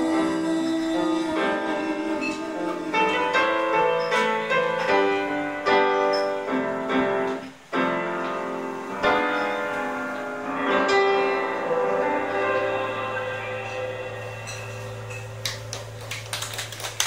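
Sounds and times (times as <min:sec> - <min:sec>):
electric piano playing: 0:00.0 - 0:17.0.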